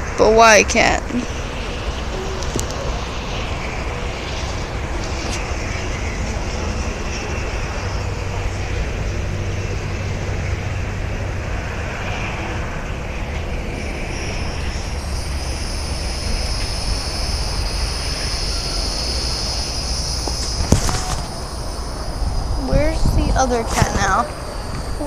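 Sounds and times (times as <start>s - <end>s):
high steady whine: 0.0s - 25.0s
highway traffic noise: 0.0s - 25.0s.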